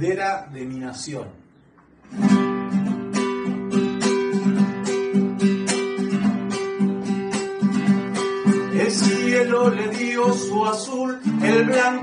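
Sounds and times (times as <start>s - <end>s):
classical guitar strumming chords: 2.0s - 12.0s.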